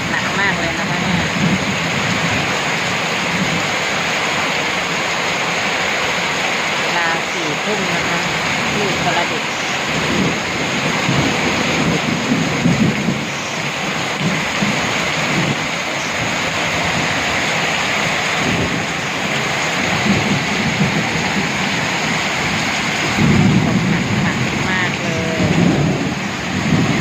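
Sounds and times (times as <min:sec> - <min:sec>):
heavy rain pouring: 0:00.0 - 0:27.0
thunder rumbling: 0:00.0 - 0:27.0.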